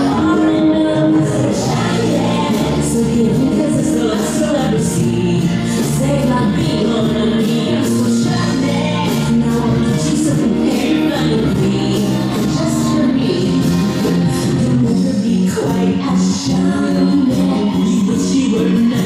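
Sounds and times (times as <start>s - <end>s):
pop song with singing: 0.0s - 19.0s.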